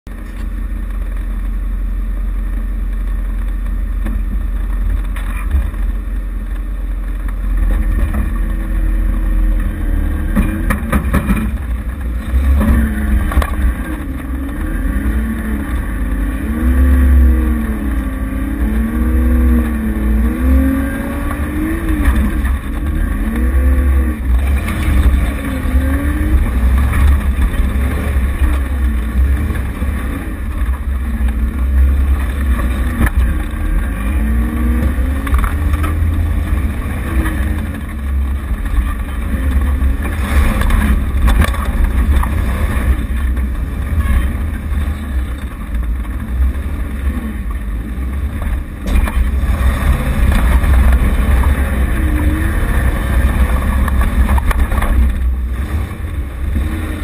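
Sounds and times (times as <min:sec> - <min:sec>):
off-road vehicle engine revving: 0:00.1 - 0:57.0.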